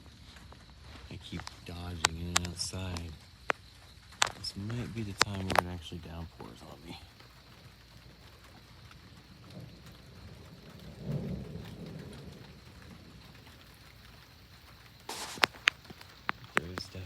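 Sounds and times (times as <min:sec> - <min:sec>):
rain hissing: 0:00.0 - 0:17.0
thunder rumbling low: 0:01.0 - 0:17.0.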